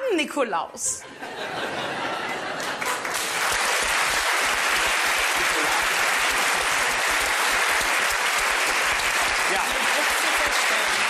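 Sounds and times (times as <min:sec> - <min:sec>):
studio audience applauding: 0:01.9 - 0:11.0.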